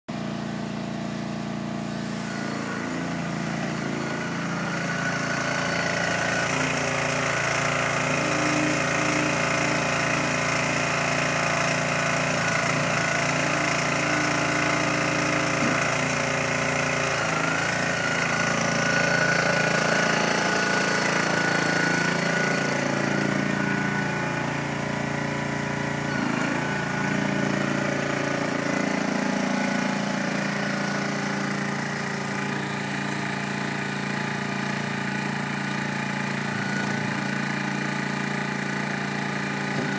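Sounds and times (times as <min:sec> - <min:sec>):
wheelbarrow engine running: 0:00.1 - 0:39.9.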